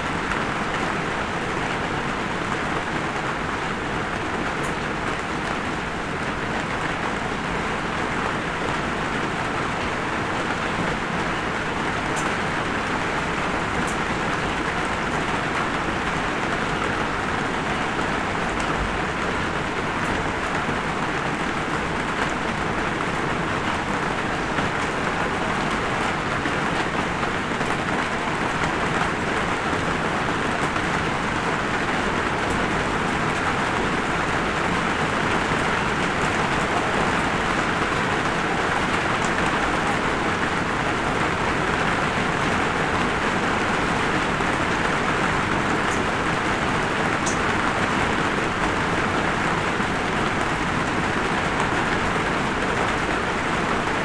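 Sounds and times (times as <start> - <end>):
steady light rain: 0.0 - 54.0.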